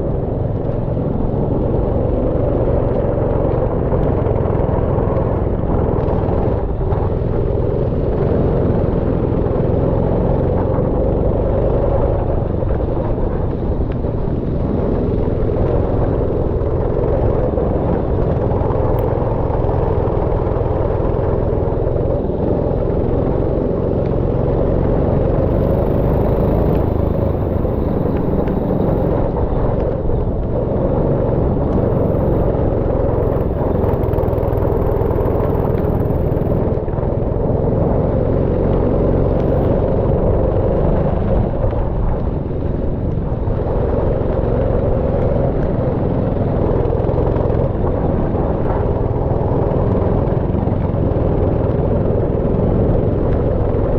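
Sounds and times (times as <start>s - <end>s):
go-kart engine running: 0.0s - 53.9s
road and wind noise: 0.0s - 53.9s.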